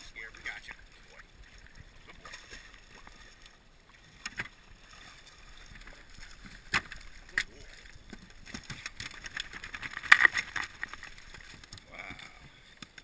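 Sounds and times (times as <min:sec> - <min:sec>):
water lapping and splashing: 0:00.0 - 0:13.0.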